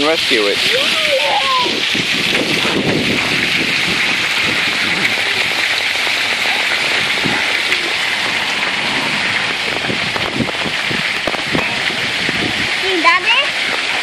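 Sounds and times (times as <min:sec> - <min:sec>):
small waterfall: 0:00.0 - 0:14.0.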